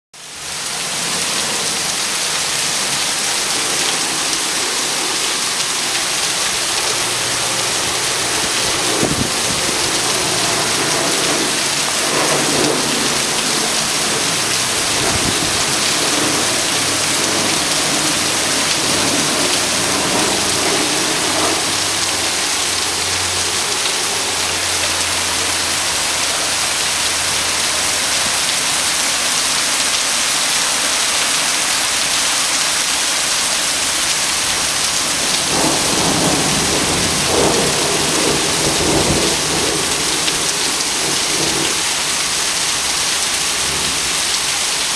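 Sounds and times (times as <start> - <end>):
heavy rain pouring: 0.2 - 44.9.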